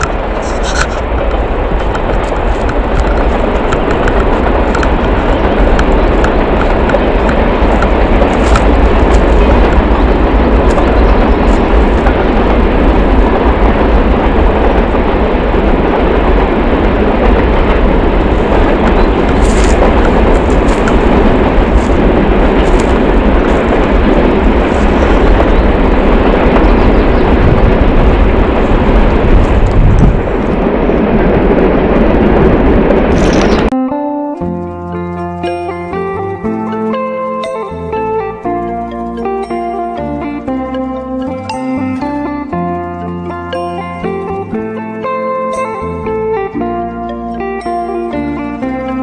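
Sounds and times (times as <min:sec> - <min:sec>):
distant train rumbling: 0:00.0 - 0:49.0.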